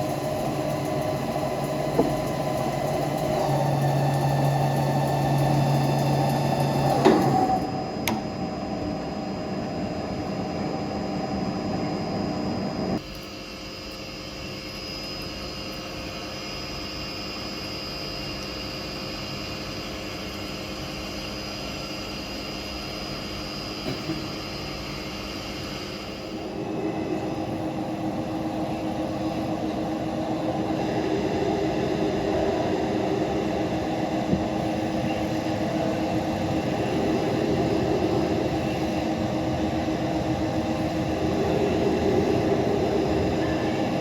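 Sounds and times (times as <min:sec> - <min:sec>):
lathe humming with high whine: 0:00.0 - 0:13.0, 0:13.6 - 0:44.0.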